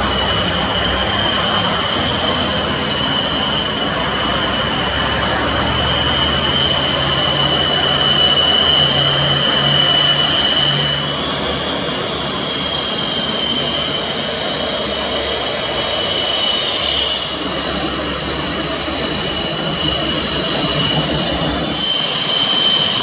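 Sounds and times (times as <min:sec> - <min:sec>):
jet engines whistling and roaring: 0:00.0 - 0:23.0.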